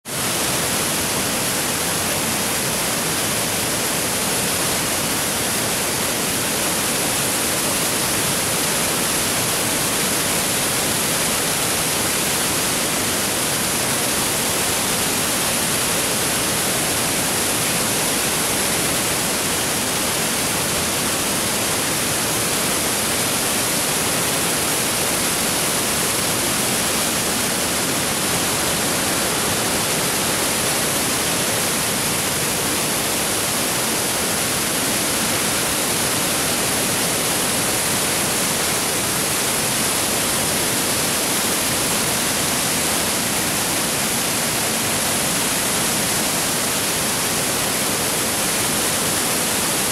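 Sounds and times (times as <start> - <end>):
waterfall rushing: 0.1 - 49.9.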